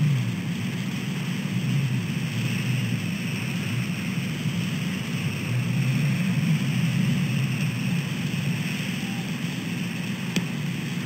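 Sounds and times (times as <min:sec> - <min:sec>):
rain: 0:00.0 - 0:11.0
road traffic rumble: 0:00.0 - 0:11.0.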